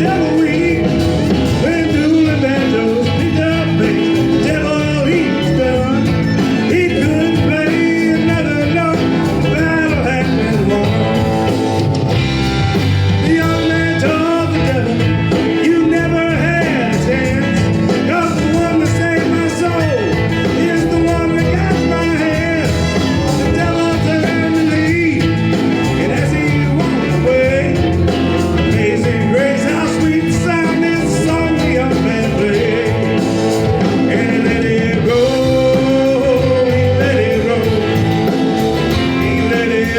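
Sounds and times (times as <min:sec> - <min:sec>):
live country-rock band playing: 0:00.0 - 0:39.9.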